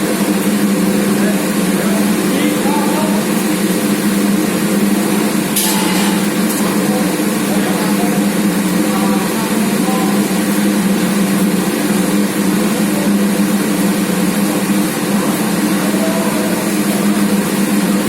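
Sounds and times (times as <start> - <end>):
machine motor humming: 0.0 - 18.0.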